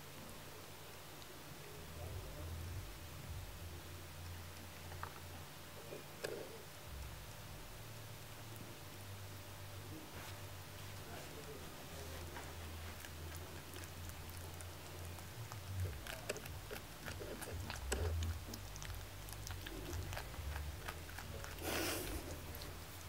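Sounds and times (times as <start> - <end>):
rabbit chewing fruit: 0.0 - 23.0.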